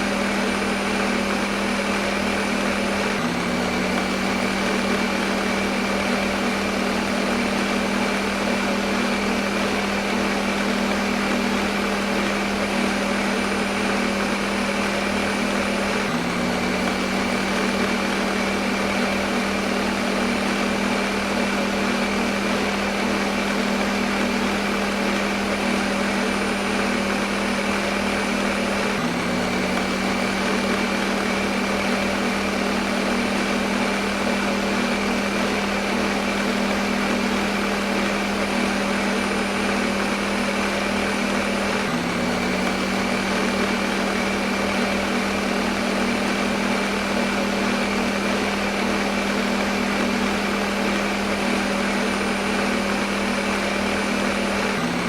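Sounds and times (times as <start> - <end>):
blender motor running: 0.0 - 55.0.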